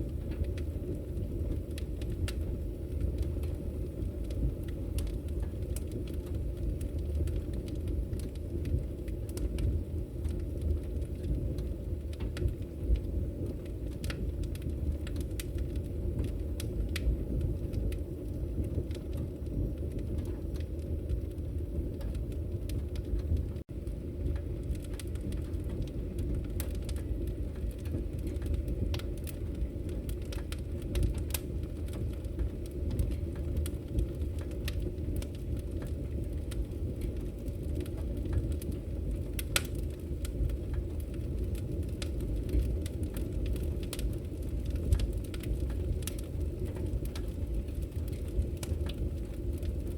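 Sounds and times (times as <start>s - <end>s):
burning logs crackling and popping: 0.0s - 49.9s
low rumble of flames: 0.0s - 49.9s.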